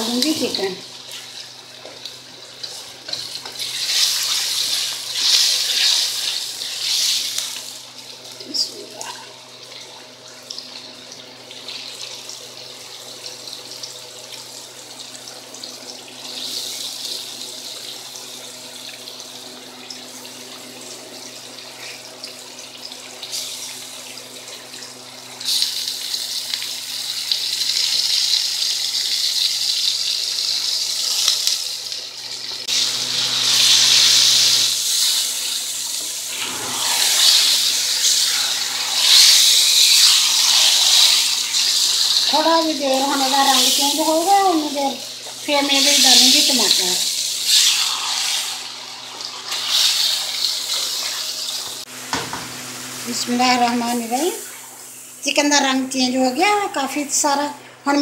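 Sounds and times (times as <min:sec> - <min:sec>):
chicken sizzling in hot oil: 0:00.0 - 0:57.4.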